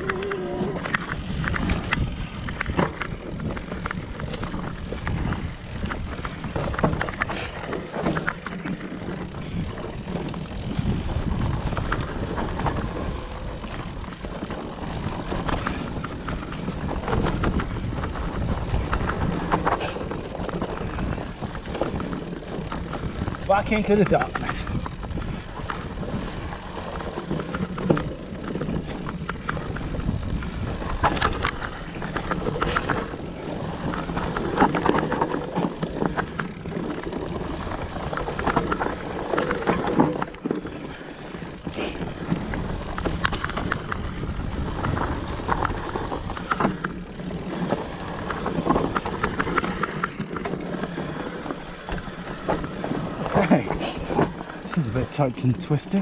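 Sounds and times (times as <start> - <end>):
bike clattering over roots: 0.0 - 56.0
bike tyres rumbling on dirt: 0.0 - 56.0.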